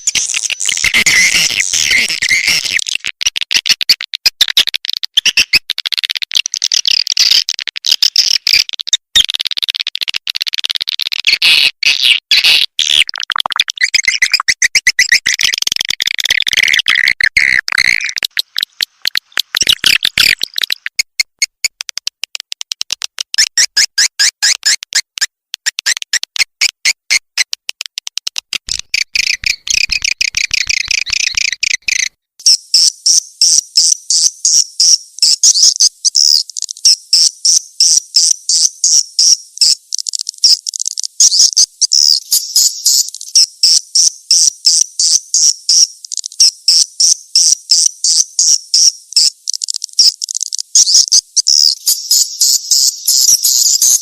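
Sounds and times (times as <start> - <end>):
swiftlet twittering recording: 0.0 - 54.0.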